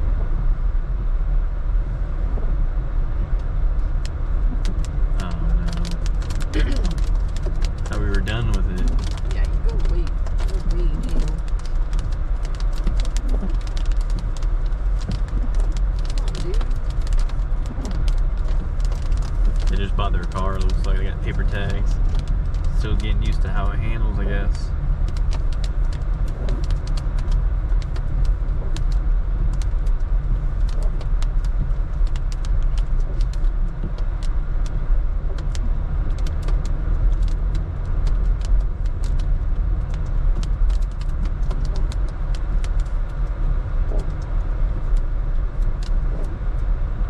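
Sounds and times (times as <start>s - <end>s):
road and engine rumble: 0.0s - 47.0s.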